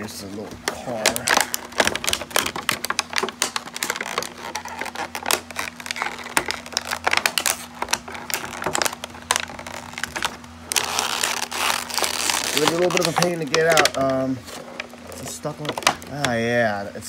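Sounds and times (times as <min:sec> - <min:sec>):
plastic packaging crackling: 0:00.0 - 0:16.8.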